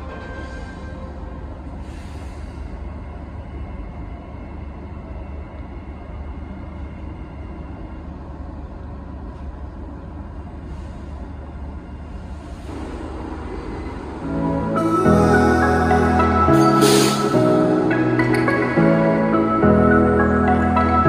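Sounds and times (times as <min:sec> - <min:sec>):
train wheels rumbling: 0:00.0 - 0:20.9.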